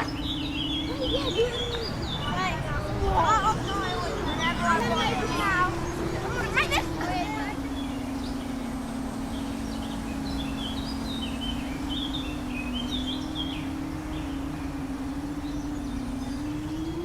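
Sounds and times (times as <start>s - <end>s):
birds chirping: 0.0s - 17.0s
drone motors buzzing: 0.0s - 17.0s.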